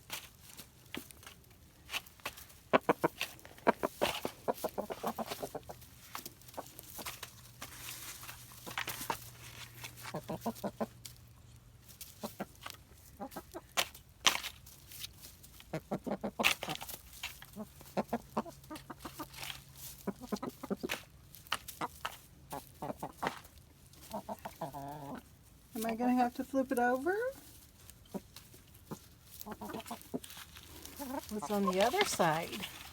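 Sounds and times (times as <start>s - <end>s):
chickens clucking: 0.2s - 32.9s.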